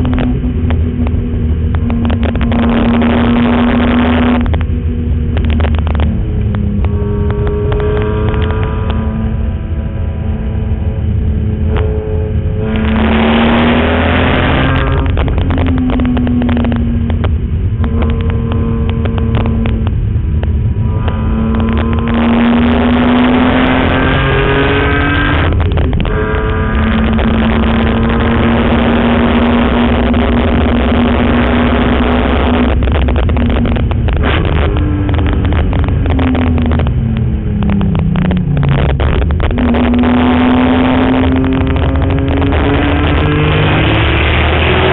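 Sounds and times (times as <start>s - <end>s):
car engine accelerating: 0.0s - 44.9s
road and wind rumble: 0.0s - 44.9s.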